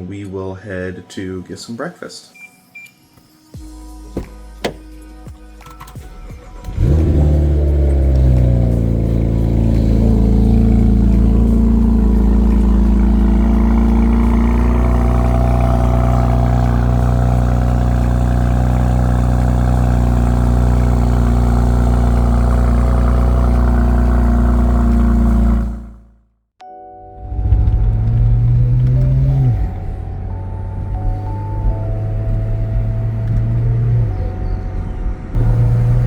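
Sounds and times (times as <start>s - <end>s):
car engine running steadily: 5.6s - 26.1s, 27.2s - 36.0s.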